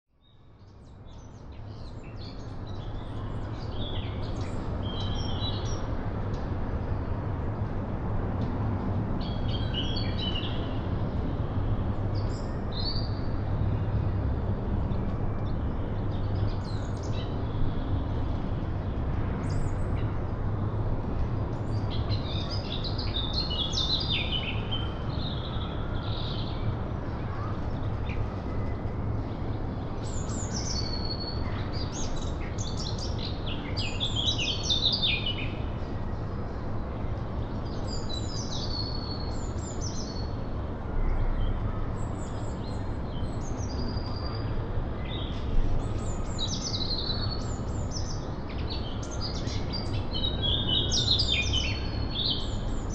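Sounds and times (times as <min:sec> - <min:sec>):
songbirds chirping and twittering: 0:00.1 - 0:52.9.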